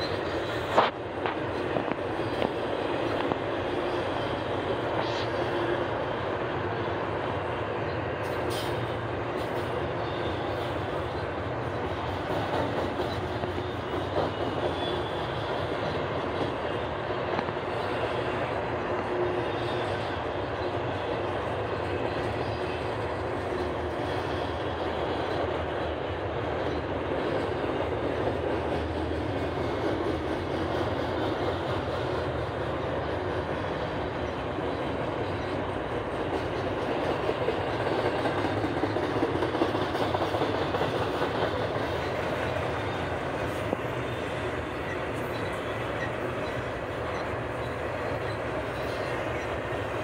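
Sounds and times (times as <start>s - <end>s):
freight train wheels on rails: 0.0s - 50.0s.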